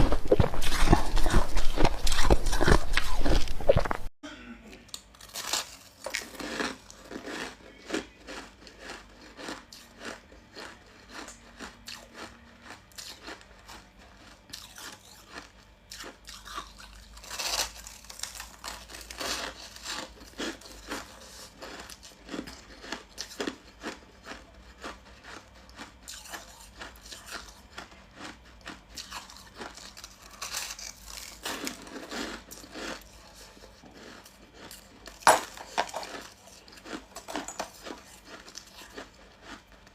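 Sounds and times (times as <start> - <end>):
chewing crunchy ice: 0.0 - 4.1, 5.0 - 39.9.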